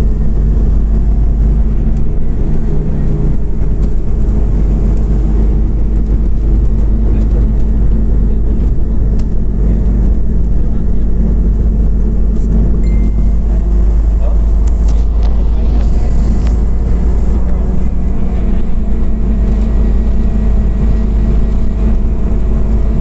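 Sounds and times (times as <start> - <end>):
bus engine running: 0.0 - 23.0
low drone of road noise: 0.0 - 23.0.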